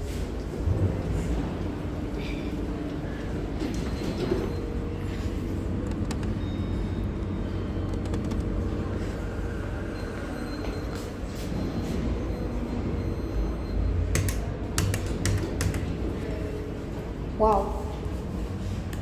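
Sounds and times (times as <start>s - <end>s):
shopping centre background rumble: 0.0s - 19.0s.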